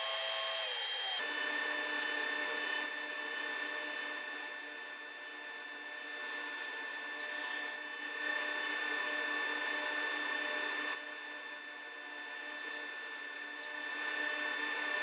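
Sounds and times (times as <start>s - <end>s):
table saw whine: 0.0s - 15.0s.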